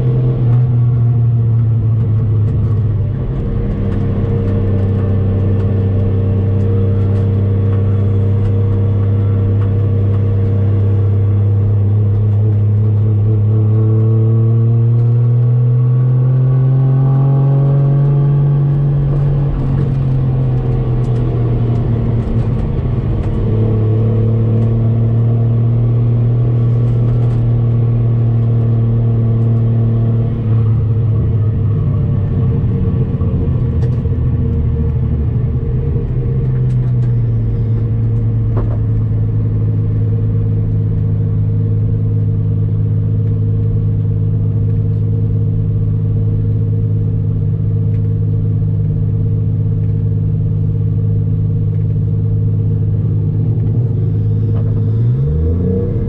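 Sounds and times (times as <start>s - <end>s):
car engine droning inside cabin: 0.0s - 56.0s.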